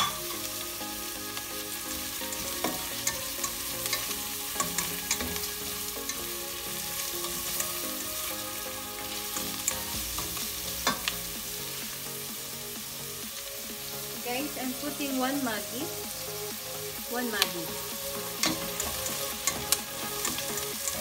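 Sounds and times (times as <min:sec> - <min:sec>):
onion sizzling in oil: 0:00.0 - 0:21.0.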